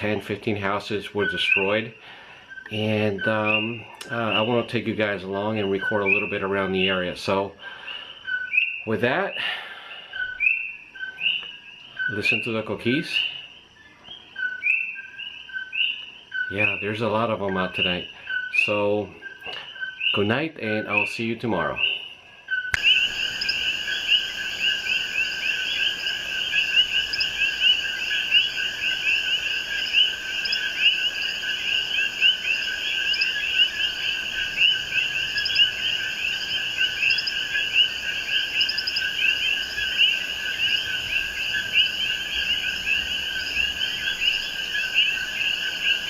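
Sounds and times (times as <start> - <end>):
frogs chirping chorus: 0.0 - 46.0.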